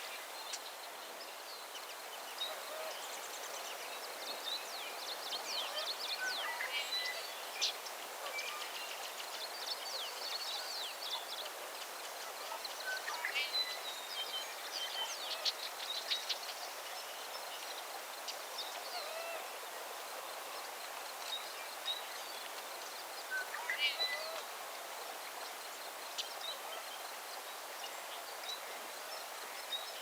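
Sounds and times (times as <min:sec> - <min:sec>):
background hiss: 0:00.0 - 0:30.0.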